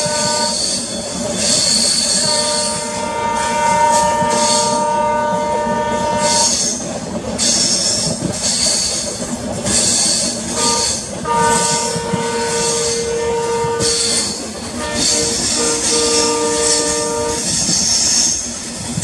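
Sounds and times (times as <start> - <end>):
train hiss: 0.0 - 19.0
train wheel and rail rumble: 0.0 - 19.0.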